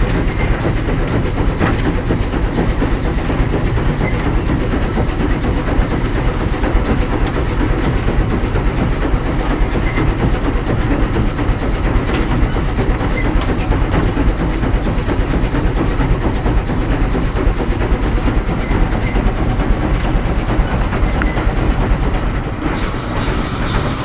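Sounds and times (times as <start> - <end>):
steam locomotive running: 0.0 - 24.0.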